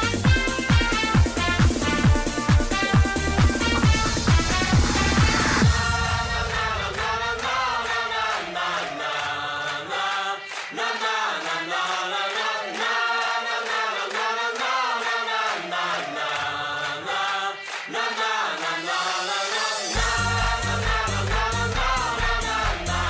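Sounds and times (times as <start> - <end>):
choir singing over a beat: 0.0 - 23.0.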